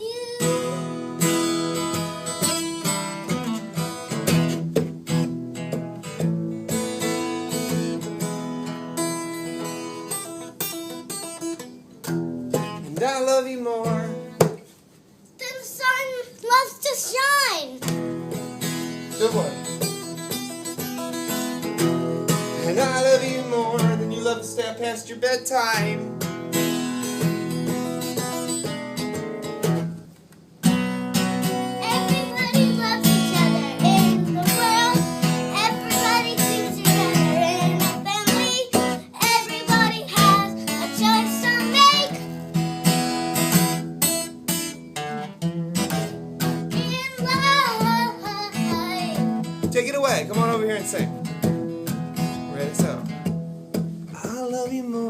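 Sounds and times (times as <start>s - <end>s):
acoustic guitar strumming: 0.0s - 14.8s, 15.4s - 55.0s.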